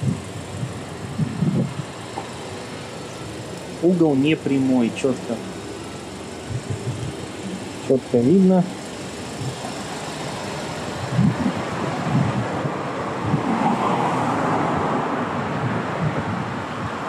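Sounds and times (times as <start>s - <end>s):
street traffic: 0.0s - 17.0s
vehicle passing: 1.1s - 17.0s.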